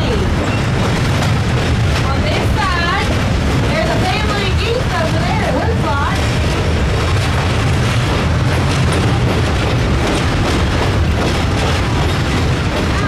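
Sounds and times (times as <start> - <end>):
train rumbling and rushing: 0.0 - 13.0.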